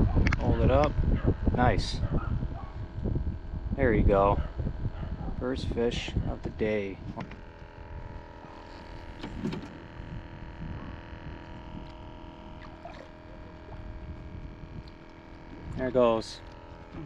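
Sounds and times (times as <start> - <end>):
faint hum of held tones: 0.0 - 17.0.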